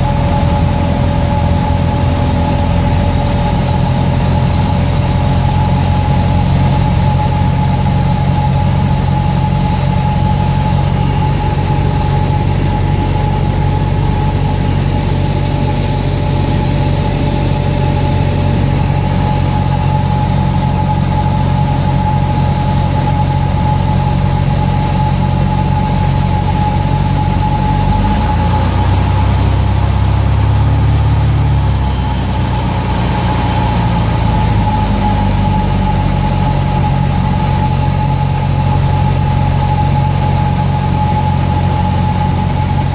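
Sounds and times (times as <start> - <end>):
aircraft engine and propeller: 0.0 - 42.9.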